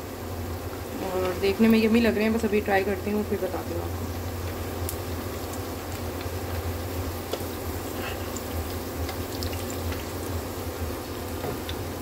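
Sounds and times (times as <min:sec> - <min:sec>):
food deep-frying in hot oil: 0:00.0 - 0:12.0
low steady hum: 0:00.0 - 0:12.0.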